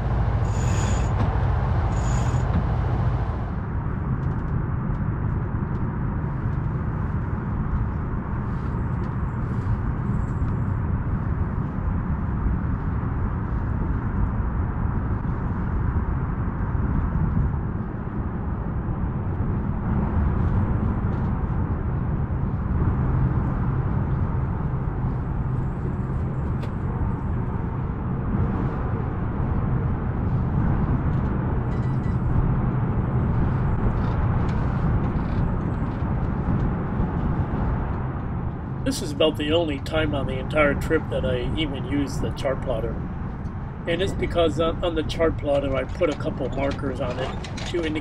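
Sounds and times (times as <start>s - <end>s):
wind rumbling on microphone: 0.0s - 48.0s.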